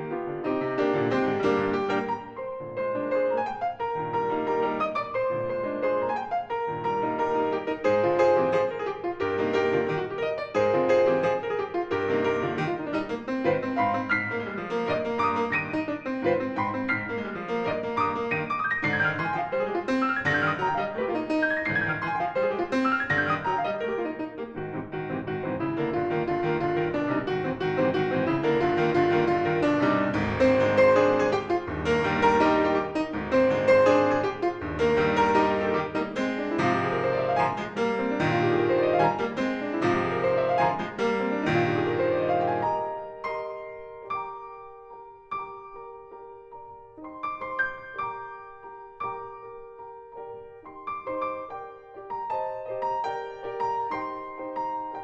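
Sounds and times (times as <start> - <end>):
solo classical piano: 0.0 - 55.0.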